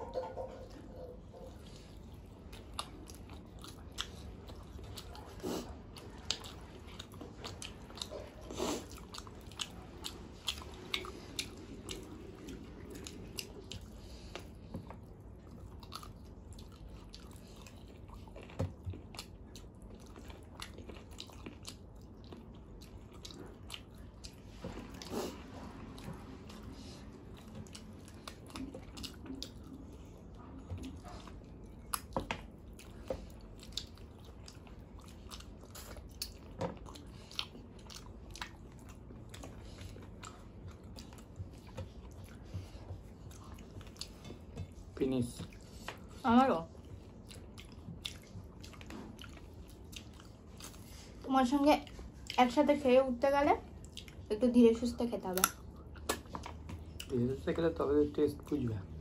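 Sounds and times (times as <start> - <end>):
people chewing food: 0.0 - 59.0.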